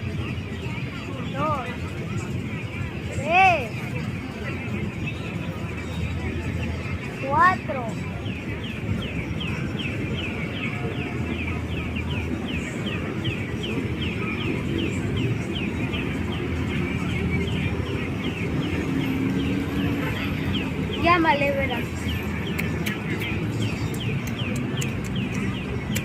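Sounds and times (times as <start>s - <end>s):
bird chirping: 0.1s - 26.0s.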